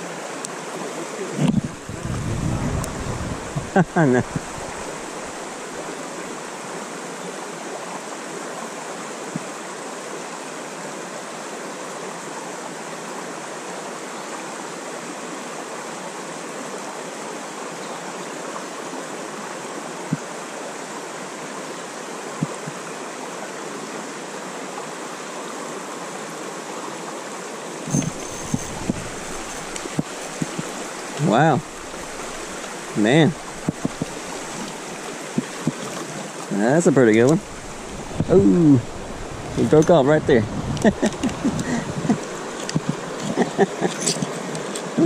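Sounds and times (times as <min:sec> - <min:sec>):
stream water rushing: 0:00.0 - 0:45.0.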